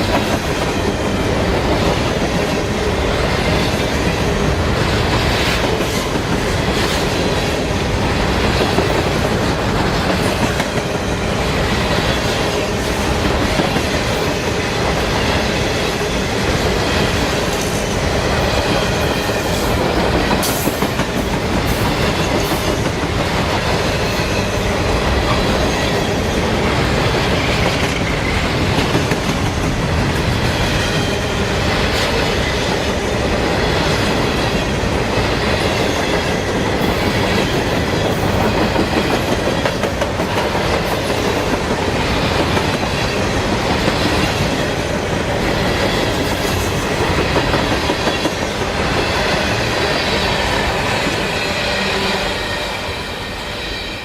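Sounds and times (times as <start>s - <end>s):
train wheels clattering on rails: 0.0s - 52.9s.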